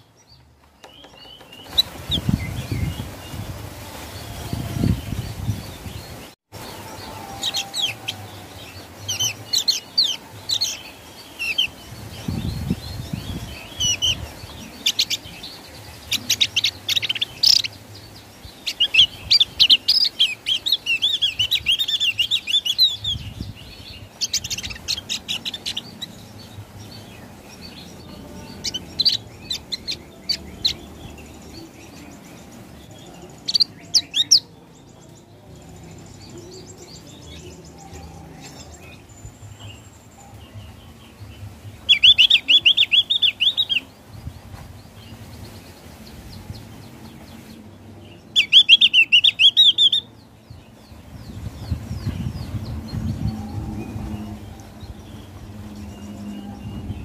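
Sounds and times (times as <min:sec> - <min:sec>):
bird chattering song: 0:04.2 - 0:57.0.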